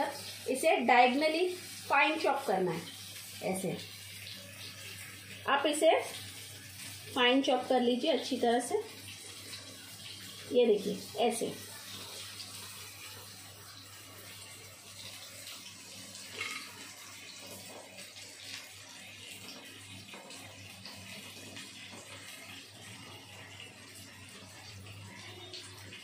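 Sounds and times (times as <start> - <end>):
onions frying in oil: 0.0 - 26.0.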